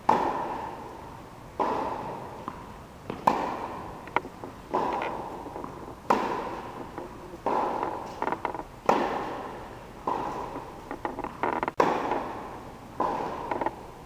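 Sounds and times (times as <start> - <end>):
tennis ball hits echoing: 0.0 - 1.0, 1.6 - 8.2, 8.8 - 10.6, 11.3 - 13.8.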